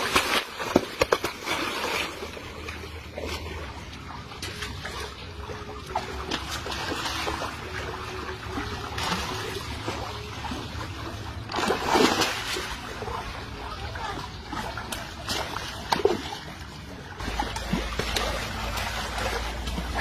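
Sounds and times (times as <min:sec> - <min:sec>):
water trickling and splashing: 0:00.0 - 0:20.0.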